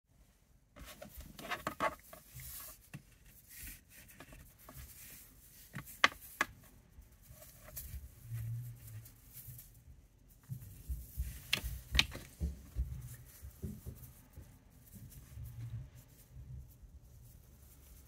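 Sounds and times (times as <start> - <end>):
rope rustling and scratching: 0.2 - 18.0.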